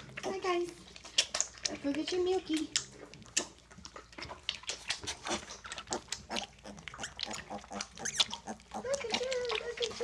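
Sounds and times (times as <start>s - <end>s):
piglets slurping milk: 0.0s - 10.0s.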